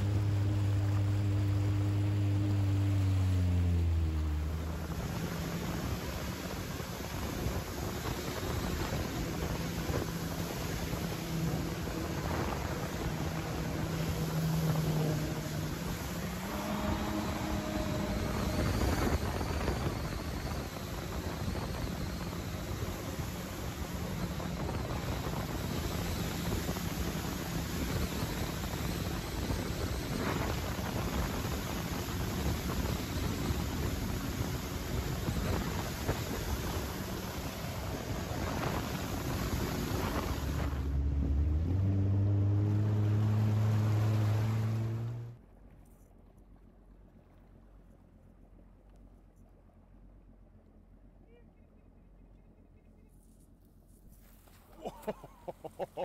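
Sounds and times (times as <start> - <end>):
wind noise: 0.0 - 45.1
water wash: 0.0 - 45.4
jet ski engine running: 0.0 - 56.0.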